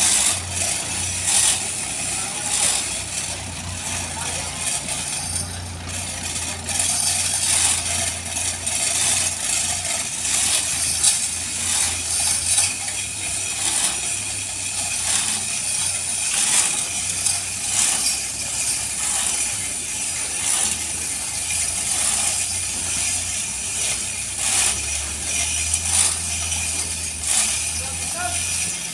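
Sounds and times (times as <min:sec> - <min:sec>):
low machinery hum: 0:00.0 - 0:28.9
metallic clicking and clanking: 0:00.0 - 0:28.9.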